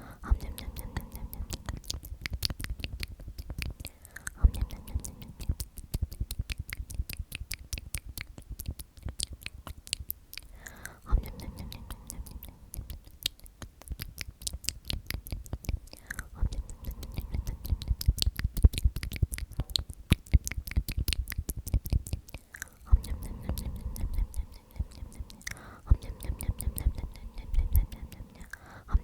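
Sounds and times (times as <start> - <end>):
lip and tongue clicks: 0.0 - 29.0
whispered wet mouth sounds: 0.0 - 29.0.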